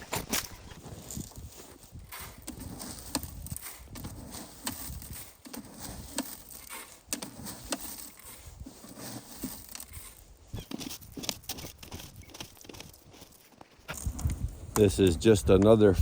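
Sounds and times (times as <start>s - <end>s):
footsteps crunching through snow: 0.0s - 15.1s.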